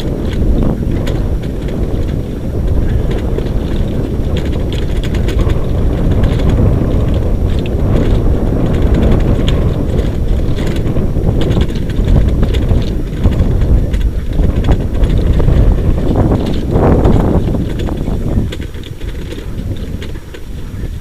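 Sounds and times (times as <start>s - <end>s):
light rattling and ticking: 0.0s - 21.0s
sled rig rumbling on dirt trail: 0.0s - 21.0s
wind on microphone: 0.0s - 21.0s.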